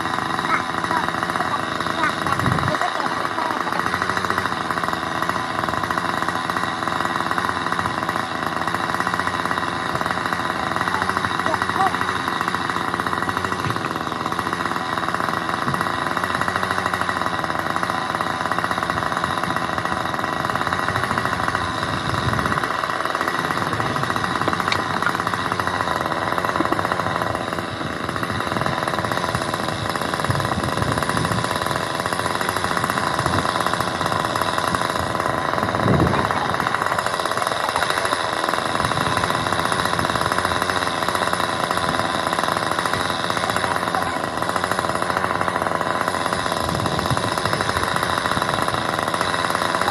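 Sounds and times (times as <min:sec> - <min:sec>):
construction machinery hammering: 0:00.0 - 0:49.9.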